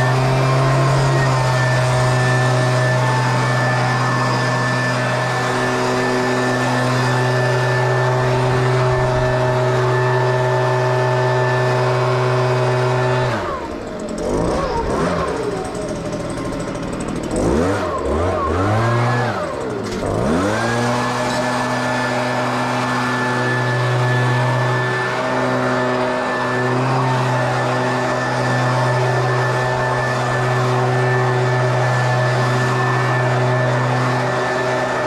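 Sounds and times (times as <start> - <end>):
mower engine running: 0.0 - 35.0.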